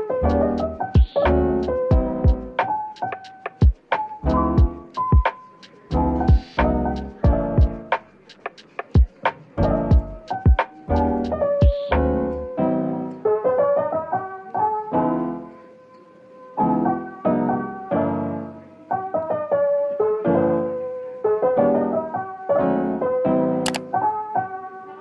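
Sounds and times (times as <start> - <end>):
mellow piano melody: 0.0 - 25.0.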